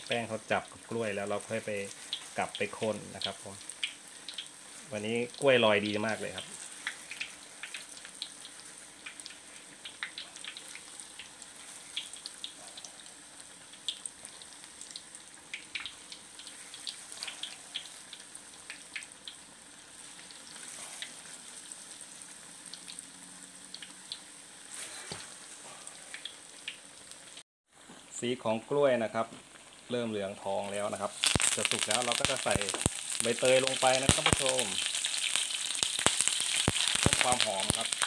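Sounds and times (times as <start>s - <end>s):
food deep-frying in oil: 0.0s - 38.0s.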